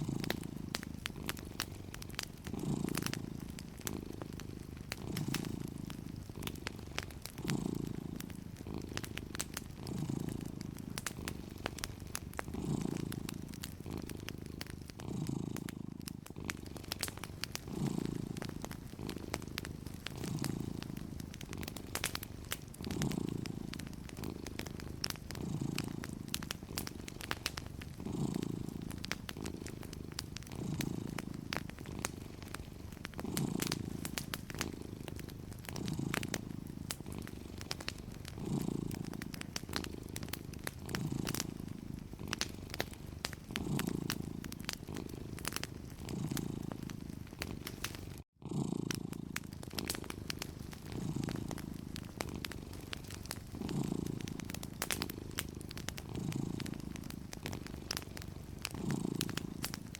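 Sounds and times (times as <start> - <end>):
cat purring: 0.0 - 59.9
wood fire crackling: 0.0 - 59.9.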